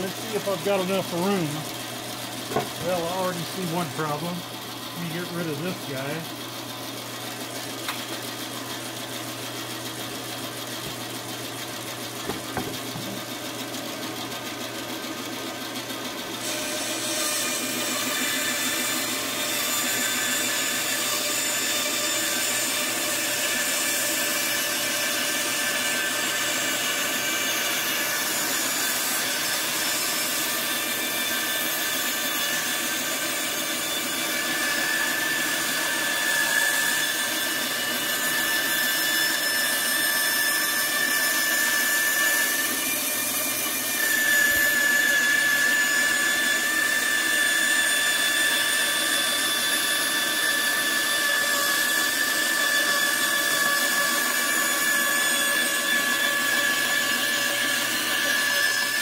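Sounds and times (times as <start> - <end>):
band saw running: 0.0 - 59.0
saw blade cutting plywood: 0.0 - 59.0.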